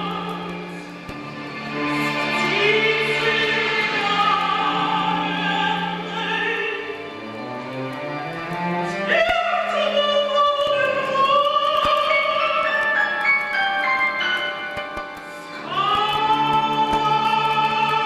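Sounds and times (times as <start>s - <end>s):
slow chamber orchestra music: 0.0s - 18.0s.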